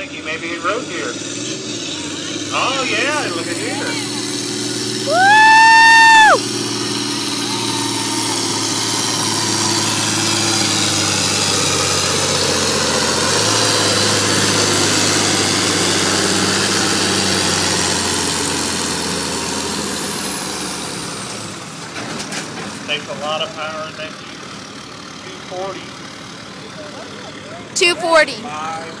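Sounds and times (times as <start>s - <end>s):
tractor diesel engine drone: 0.0s - 5.6s, 6.2s - 29.0s.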